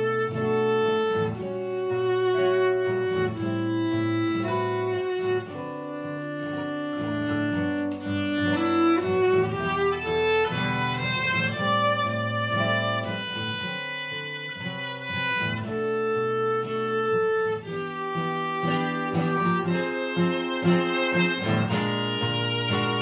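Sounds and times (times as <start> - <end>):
plucked acoustic guitar: 0.0 - 23.0
violin slow melody: 0.0 - 23.0.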